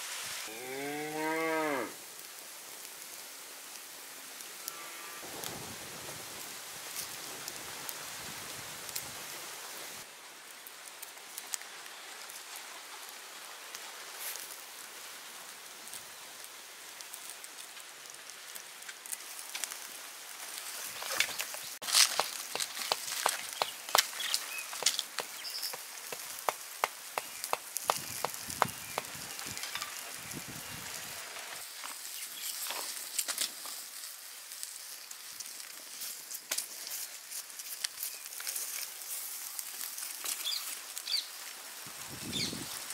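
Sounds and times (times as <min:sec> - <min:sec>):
wood fire hissing: 0:00.0 - 0:00.5, 0:01.6 - 0:42.9
fire crackling and popping: 0:01.9 - 0:42.9.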